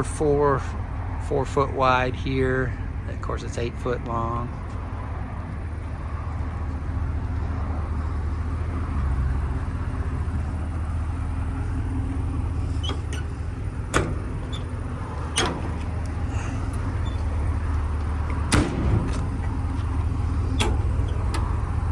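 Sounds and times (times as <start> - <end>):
low rumble: 1.9 - 21.9.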